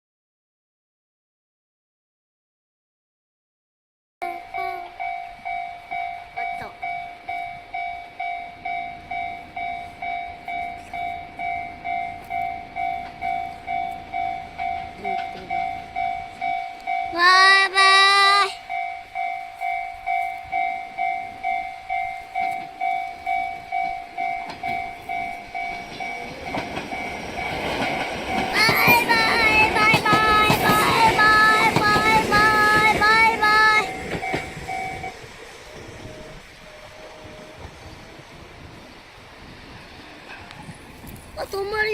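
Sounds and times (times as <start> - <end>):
level crossing warning bell: 4.2 - 39.1
train noise: 4.2 - 41.9.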